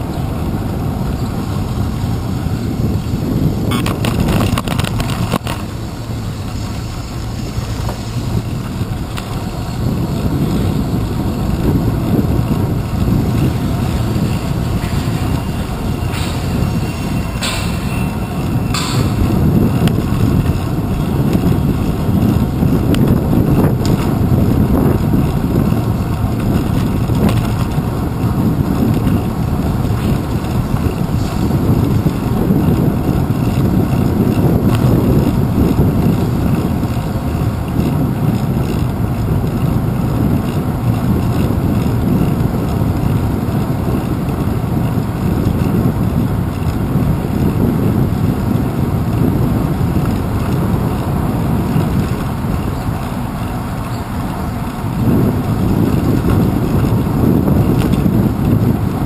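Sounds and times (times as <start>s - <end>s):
faint clicks from bumps: 0.0s - 59.0s
road vibration rumble: 0.0s - 59.0s
wind buffeting: 0.0s - 59.0s.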